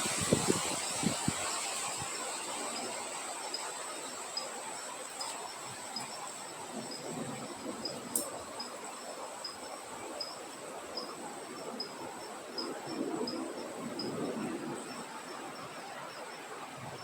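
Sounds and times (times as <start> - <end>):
night insects trilling: 0.0 - 17.0
wind hiss: 0.0 - 17.0.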